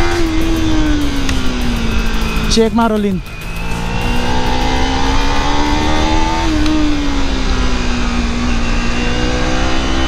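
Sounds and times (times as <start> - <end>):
heavy wind rumble: 0.0 - 10.0
motorcycle engine running: 0.0 - 10.0.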